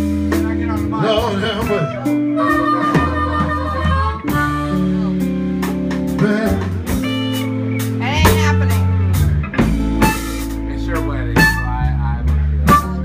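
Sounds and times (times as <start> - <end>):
bass notes: 0.0 - 13.0
blues guitar bending notes: 0.0 - 13.0
drum kit: 0.0 - 13.0.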